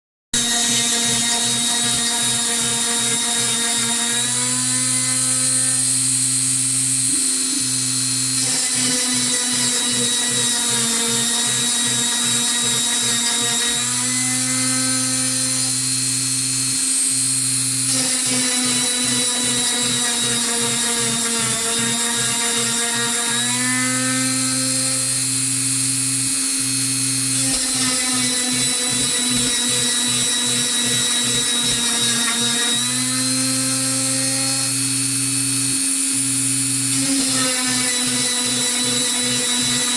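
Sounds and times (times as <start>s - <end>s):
stepper motors whining: 0.4s - 39.9s.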